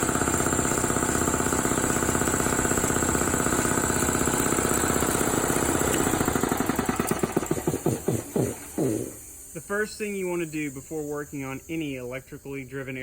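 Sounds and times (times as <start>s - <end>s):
air compressor pulsing: 0.0s - 12.9s.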